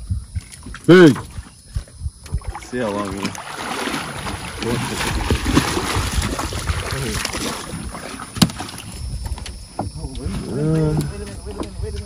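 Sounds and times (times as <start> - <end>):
wind buffeting microphone: 0.0 - 12.0
water splashing beside boat: 0.4 - 12.0.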